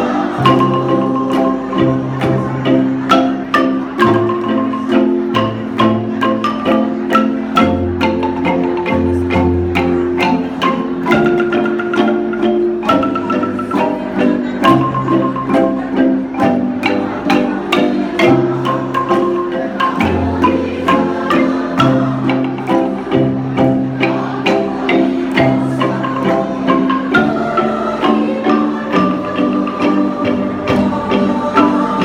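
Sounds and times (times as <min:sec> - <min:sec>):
wooden xylophone ensemble: 0:00.0 - 0:32.0.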